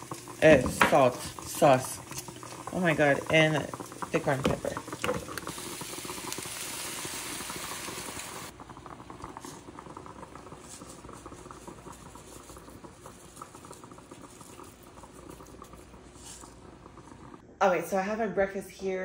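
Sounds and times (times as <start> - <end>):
food sizzling in a frying pan: 0.0 - 17.4
moka pot brewing coffee: 0.0 - 17.4.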